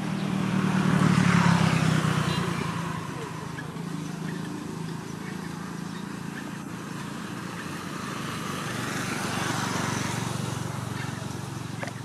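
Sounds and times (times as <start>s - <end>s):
motor vehicle engine running: 0.0s - 12.0s.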